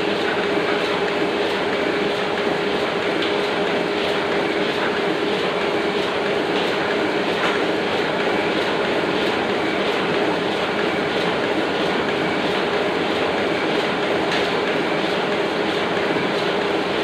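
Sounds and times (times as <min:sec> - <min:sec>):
printing press clattering: 0:00.0 - 0:17.0.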